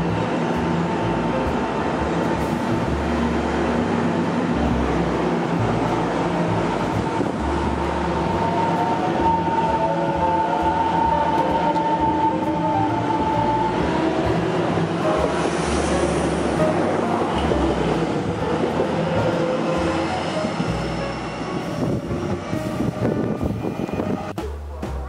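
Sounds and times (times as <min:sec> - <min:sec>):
train cars rolling past: 0:00.0 - 0:24.3.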